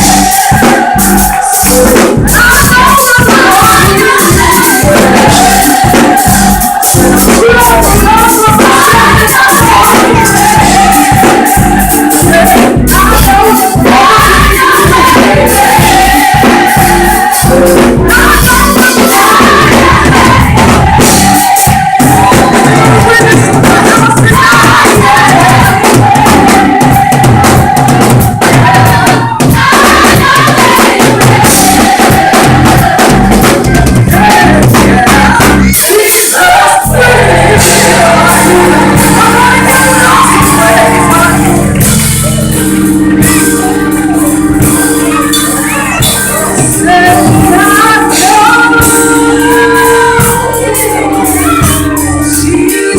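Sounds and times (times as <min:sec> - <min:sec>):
drums: 0:00.0 - 0:52.9
live band playing: 0:00.0 - 0:52.9
vocal group singing: 0:00.0 - 0:52.9.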